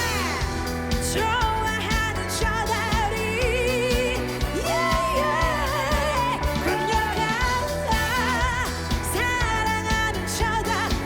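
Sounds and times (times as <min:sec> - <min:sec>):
band with drums and bass: 0:00.0 - 0:11.0
woman singing: 0:00.0 - 0:11.0.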